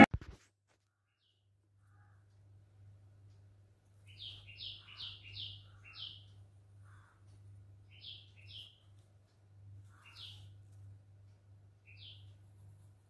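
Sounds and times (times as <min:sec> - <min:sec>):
faint bird chirping: 0:00.8 - 0:02.6, 0:03.2 - 0:13.0.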